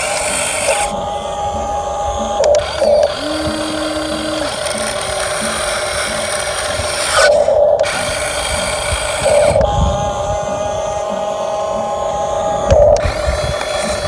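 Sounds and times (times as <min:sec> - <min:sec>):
electric gear motors whirring: 0:00.0 - 0:14.0.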